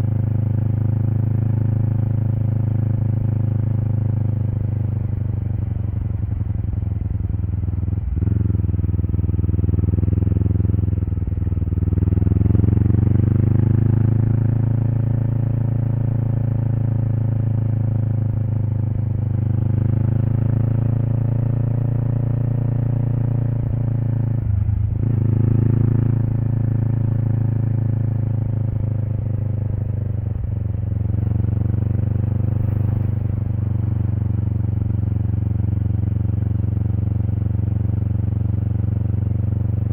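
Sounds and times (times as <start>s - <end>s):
motorcycle exhaust while riding: 0.0s - 39.9s.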